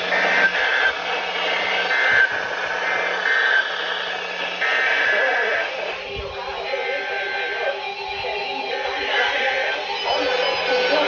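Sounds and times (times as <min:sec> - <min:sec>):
bursts of data tones: 0:00.0 - 0:11.0
radio static hiss: 0:00.0 - 0:11.0.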